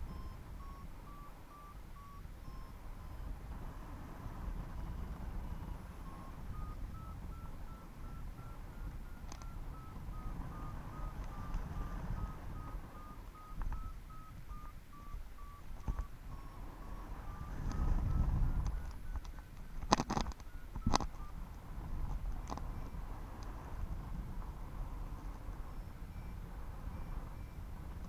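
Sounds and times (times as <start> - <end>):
variometer beeping: 0.0 - 28.0
wind rumble on microphone: 0.0 - 28.0.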